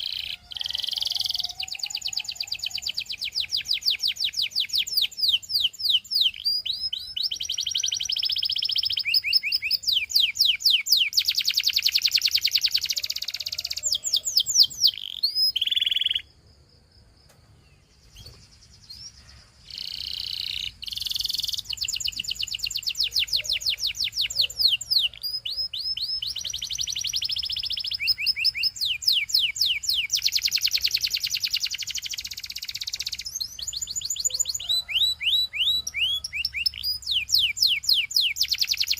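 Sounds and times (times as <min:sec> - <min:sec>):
canary singing: 0:00.0 - 0:16.3, 0:17.7 - 0:38.9.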